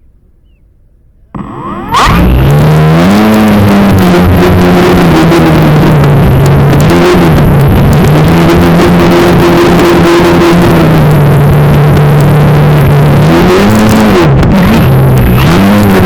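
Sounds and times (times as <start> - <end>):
model plane motor humming: 1.3 - 16.0.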